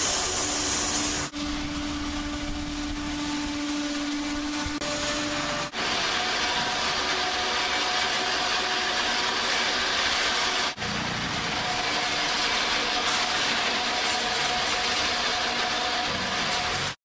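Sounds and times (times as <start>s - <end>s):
machinery hissing: 0.0s - 16.9s.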